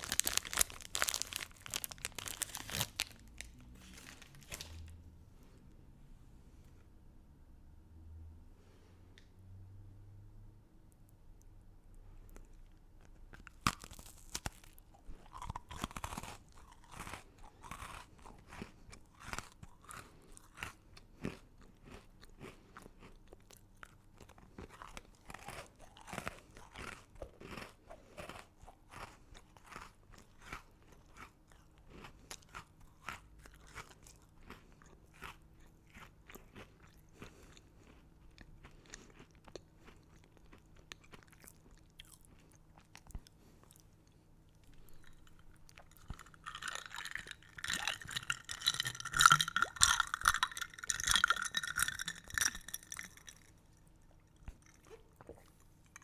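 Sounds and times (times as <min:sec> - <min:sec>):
crunchy chewing of hard candy: 0:00.0 - 0:05.0, 0:12.1 - 0:56.0.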